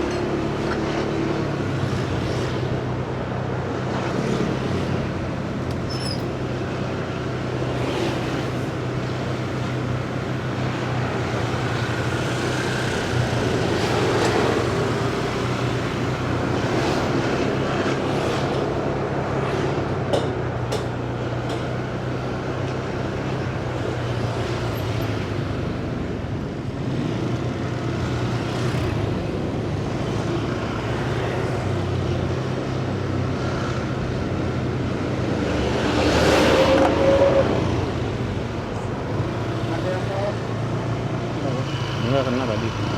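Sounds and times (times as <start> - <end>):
city traffic: 0.0 - 42.9.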